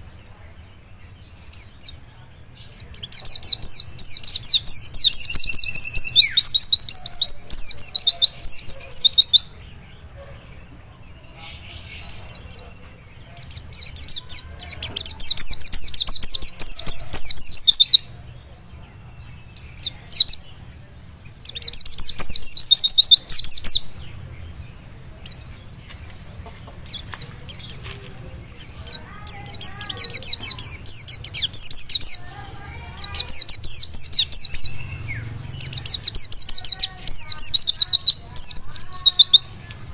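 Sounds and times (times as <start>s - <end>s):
bird high twittering song: 0.0s - 39.9s
soft bird calls: 0.0s - 39.9s.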